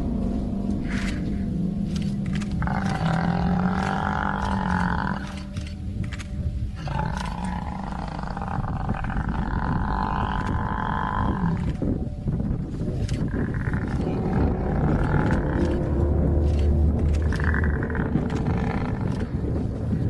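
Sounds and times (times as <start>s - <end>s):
lions growling: 0.0s - 20.0s.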